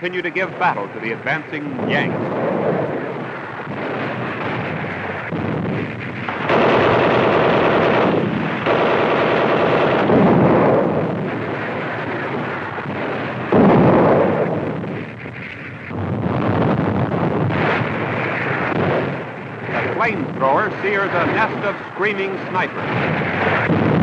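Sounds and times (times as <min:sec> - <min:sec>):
loud explosion blast: 0:00.0 - 0:24.0
rapid gunfire: 0:00.0 - 0:24.0.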